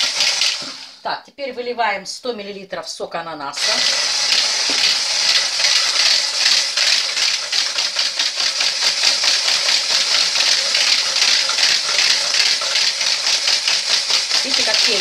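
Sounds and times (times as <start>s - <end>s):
electric hand mixer whisking: 0.0s - 1.0s, 3.6s - 15.0s.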